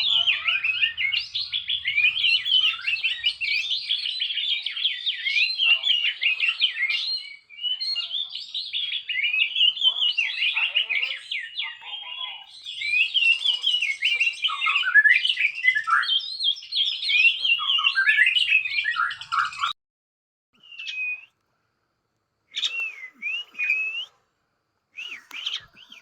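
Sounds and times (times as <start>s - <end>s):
bird whistled calls: 0.0s - 19.7s, 20.6s - 21.4s, 22.5s - 24.2s, 25.0s - 26.0s
songbird warbling: 0.0s - 19.7s, 20.6s - 21.3s, 22.5s - 24.1s, 25.0s - 26.0s.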